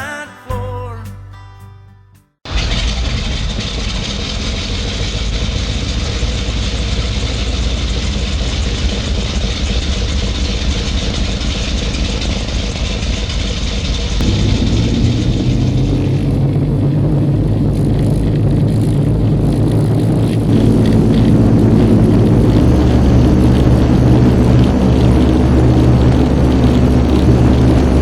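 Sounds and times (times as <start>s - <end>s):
aircraft piston engines droning: 2.6s - 28.0s.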